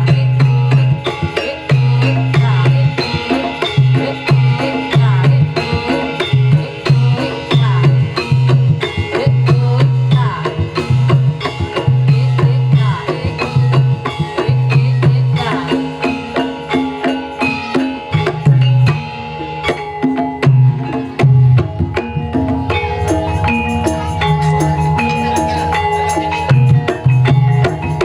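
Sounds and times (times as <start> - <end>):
hand drums driving rhythm: 0.0 - 28.0
ringing metallophones: 0.0 - 28.0.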